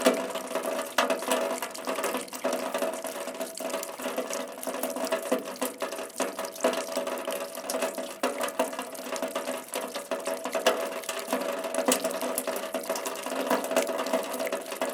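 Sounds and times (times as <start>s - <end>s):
rain falling: 0.0s - 14.9s
raindrops ticking: 0.0s - 14.9s.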